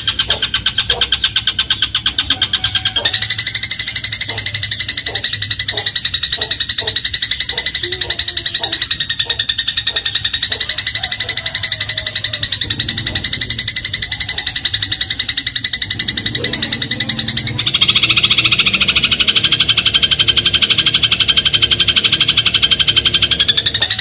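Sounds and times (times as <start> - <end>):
sparrow chirping rapidly: 0.0 - 24.0.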